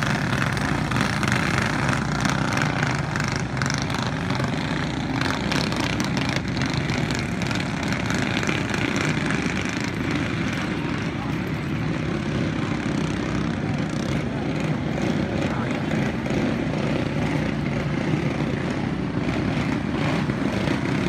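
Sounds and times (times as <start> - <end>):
go-kart engines buzzing: 0.0 - 21.0.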